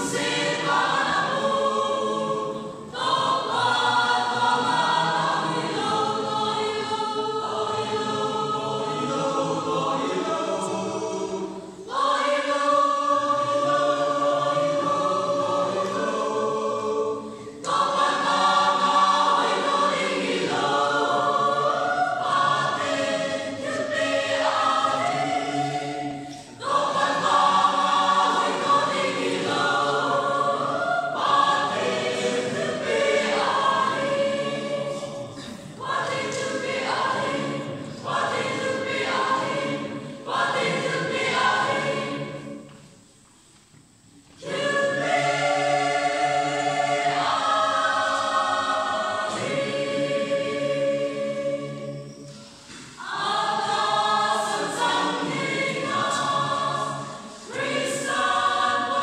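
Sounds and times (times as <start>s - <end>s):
choir singing in harmony: 0.0s - 43.3s, 44.2s - 59.0s.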